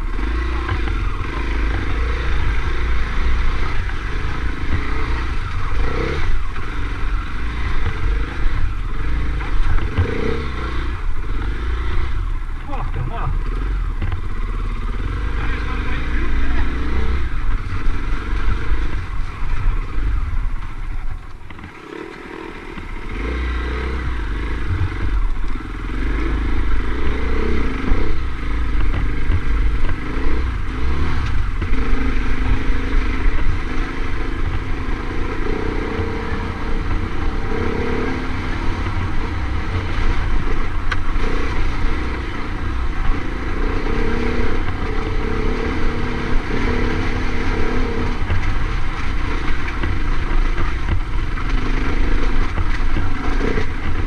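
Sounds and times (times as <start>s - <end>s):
off-road motorcycle engine: 0.0s - 54.0s.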